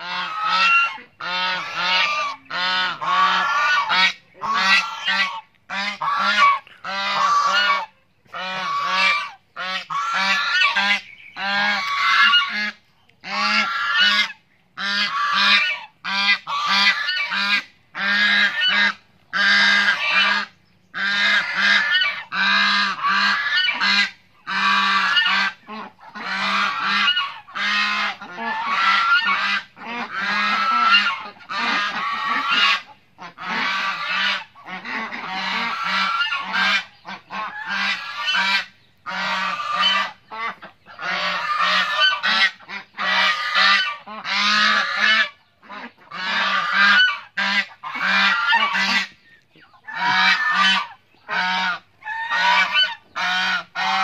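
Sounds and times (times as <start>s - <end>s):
geese honking: 0.0s - 54.0s.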